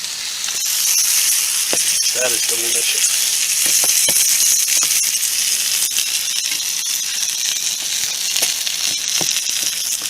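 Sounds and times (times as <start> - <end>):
burger patty sizzling in a pan: 0.0 - 10.0.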